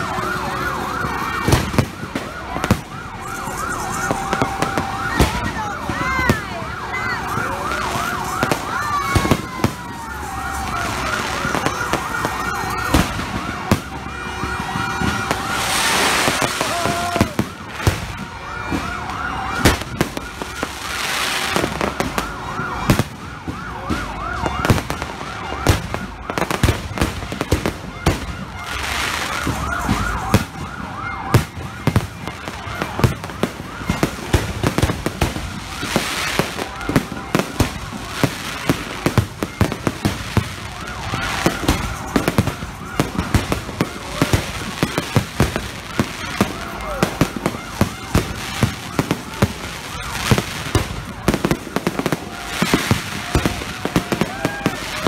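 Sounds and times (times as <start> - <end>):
fireworks bangs: 0.0 - 55.0
fireworks crackling: 0.0 - 55.0
siren-like rising and falling tone: 0.0 - 55.0.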